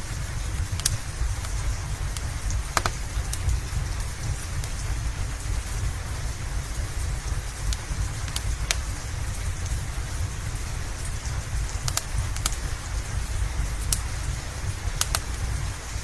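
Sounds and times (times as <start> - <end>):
low rumble: 0.0 - 16.0
steady rain hiss: 0.0 - 16.0
wood fire crackling pops: 0.0 - 16.0.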